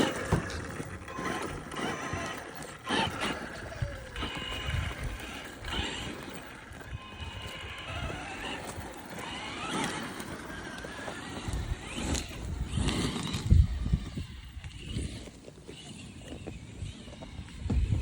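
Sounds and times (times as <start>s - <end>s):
electric motor whine: 0.0s - 18.0s
tyre and drivetrain noise: 0.0s - 18.0s.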